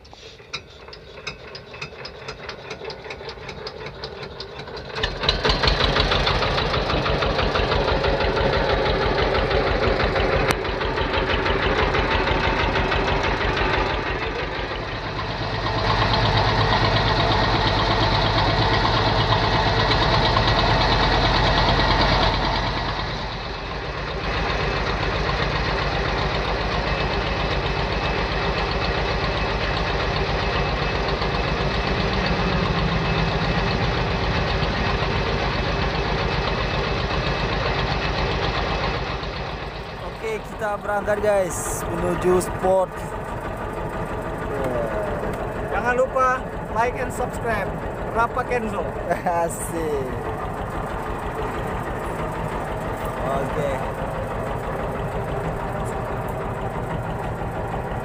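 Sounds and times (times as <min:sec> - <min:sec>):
boat engine chugging: 0:00.0 - 0:58.0.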